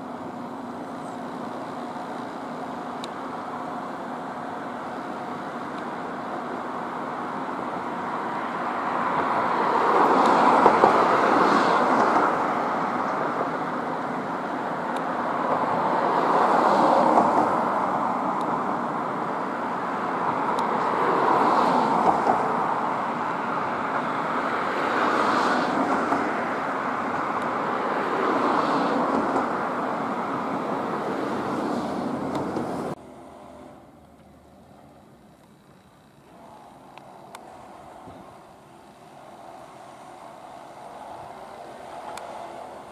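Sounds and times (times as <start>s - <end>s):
cars passing: 0.0s - 42.9s.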